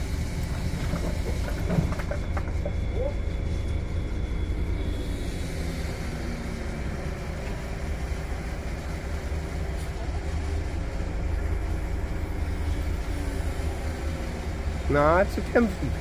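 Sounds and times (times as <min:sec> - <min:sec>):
truck engine rumbling under load: 0:00.0 - 0:16.0.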